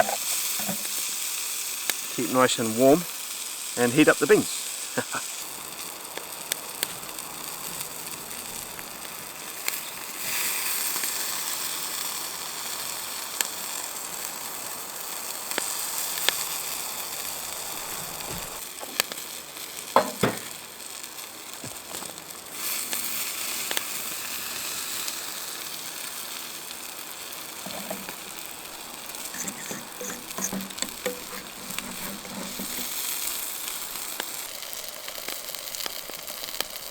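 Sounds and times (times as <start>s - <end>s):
sausages sizzling on a grill: 0.0s - 36.9s
wood fire crackling: 0.0s - 36.9s.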